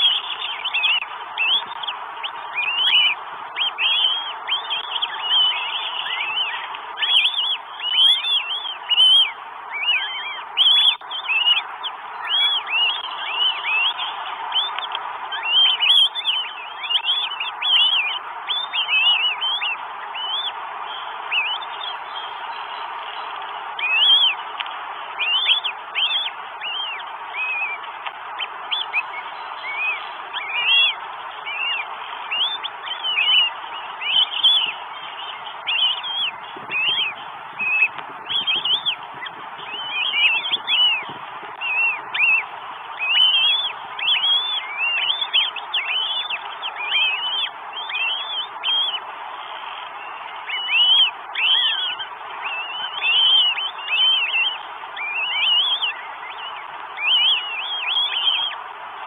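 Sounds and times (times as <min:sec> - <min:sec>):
nestlings begging peeps: 0:00.0 - 0:58.7
steady hiss: 0:00.0 - 0:59.0.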